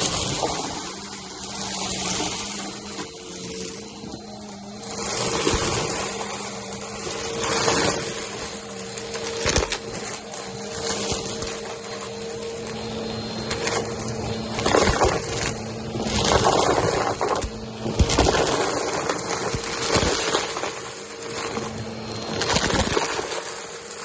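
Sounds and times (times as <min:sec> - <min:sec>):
debris crackling in vacuum: 0:00.0 - 0:24.0
vacuum cleaner running: 0:00.0 - 0:24.0.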